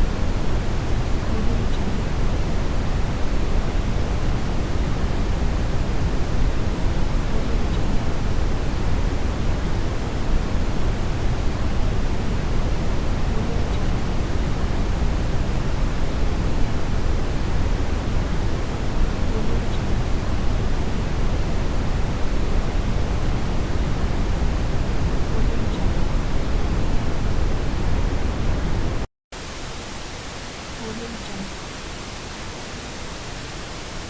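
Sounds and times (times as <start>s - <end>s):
steady test-signal noise hiss: 0.0s - 34.0s.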